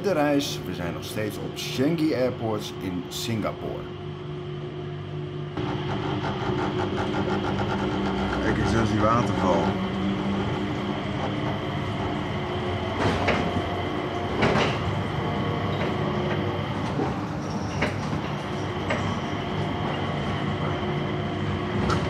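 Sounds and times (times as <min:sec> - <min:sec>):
even whine: 0:00.0 - 0:22.0
train hum and rumble: 0:00.0 - 0:22.0.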